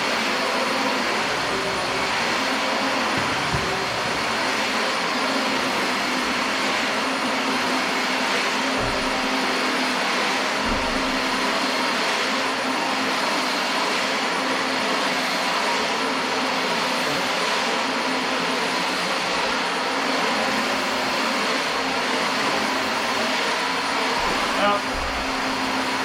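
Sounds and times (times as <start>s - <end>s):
upright vacuum cleaner running: 0.0s - 26.0s.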